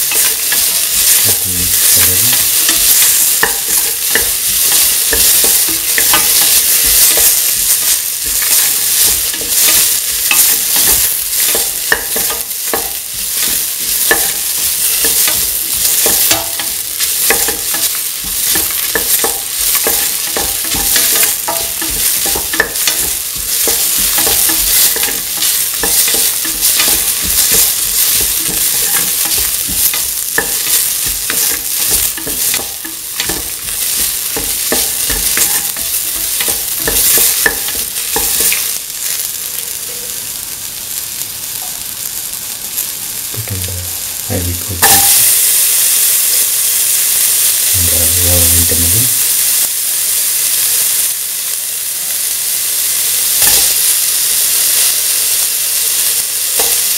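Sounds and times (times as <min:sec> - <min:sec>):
vegetables sizzling in hot oil: 0:00.0 - 0:56.9.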